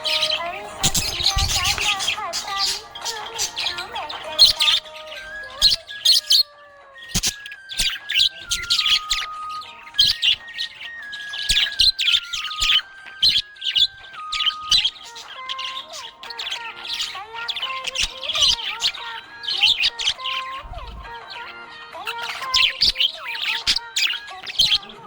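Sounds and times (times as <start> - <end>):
budgerigar chirping: 0.0 - 25.0
soft melody of held notes: 0.0 - 25.0.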